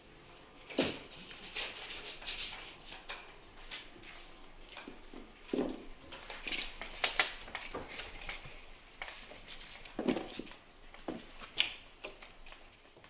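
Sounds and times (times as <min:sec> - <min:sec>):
kittens scuffling: 0:00.6 - 0:13.0.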